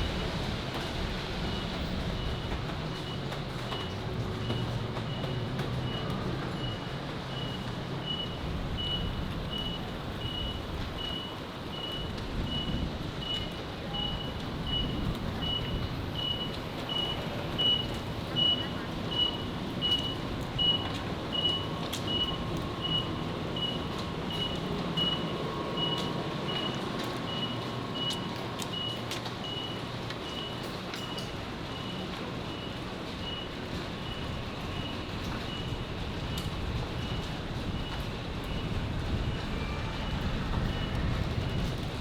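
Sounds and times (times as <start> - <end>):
city traffic noise: 0.0 - 42.0.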